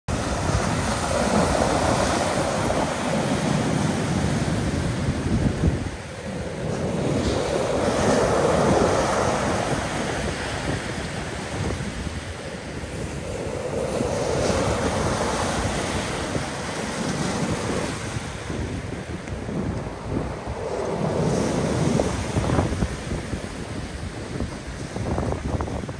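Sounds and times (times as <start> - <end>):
waves breaking on pebble beach: 0.1 - 25.9.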